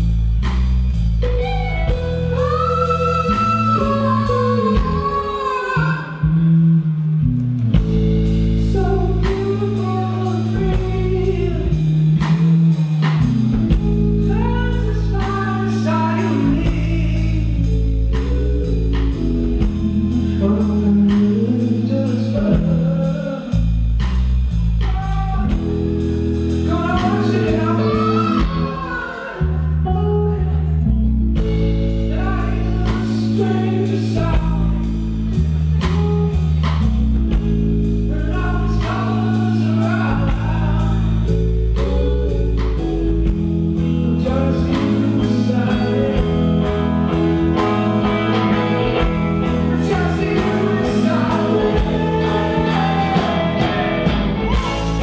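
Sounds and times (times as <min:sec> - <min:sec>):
drum kit: 0:00.0 - 0:29.4, 0:31.3 - 0:55.0
electric guitars: 0:00.0 - 0:55.0
person singing: 0:01.9 - 0:06.5, 0:08.6 - 0:12.5, 0:13.7 - 0:23.7, 0:24.6 - 0:35.1, 0:38.0 - 0:55.0.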